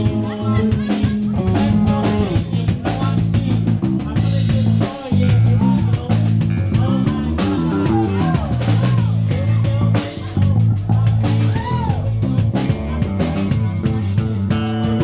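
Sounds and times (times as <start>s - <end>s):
bass guitar: 0.0s - 15.0s
drum kit: 0.0s - 15.0s
electric guitar: 0.0s - 15.0s.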